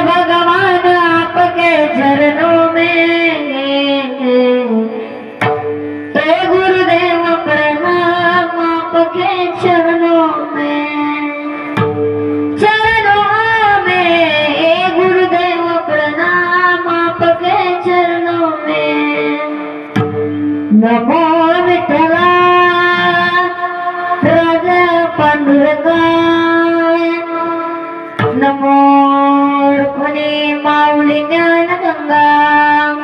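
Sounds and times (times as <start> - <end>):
instrumental accompaniment: 0.0 - 33.0.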